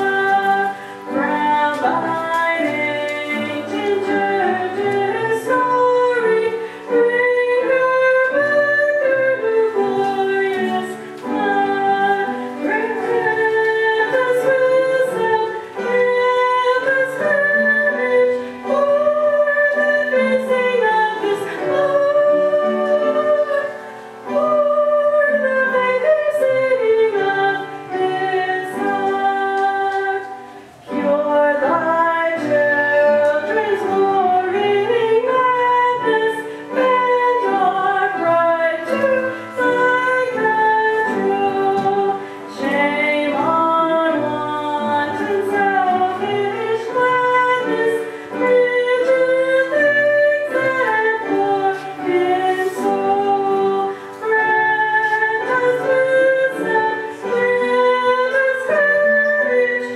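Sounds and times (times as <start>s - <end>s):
woman singing: 0.0s - 59.9s.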